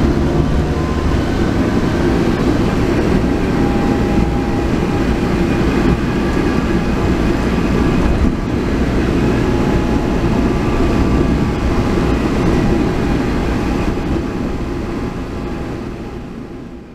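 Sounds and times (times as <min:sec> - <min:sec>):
car road and drivetrain noise: 0:00.0 - 0:16.9
transmission whine: 0:00.0 - 0:16.9.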